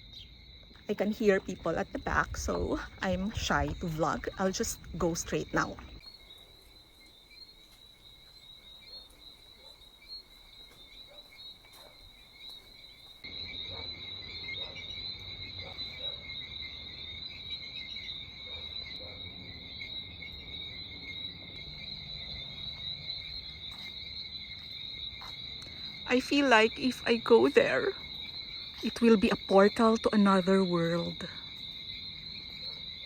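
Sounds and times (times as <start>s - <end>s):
cicada chorus: 0.0s - 33.0s.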